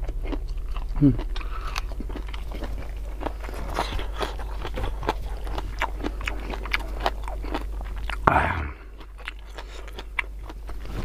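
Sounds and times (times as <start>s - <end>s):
person chewing crunchy vegetables: 0.0s - 11.0s.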